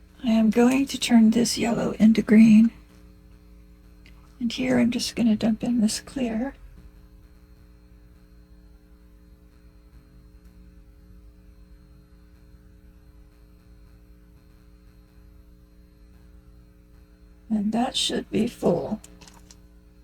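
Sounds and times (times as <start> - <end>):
faint electrical mains hum: 0.0 - 20.0.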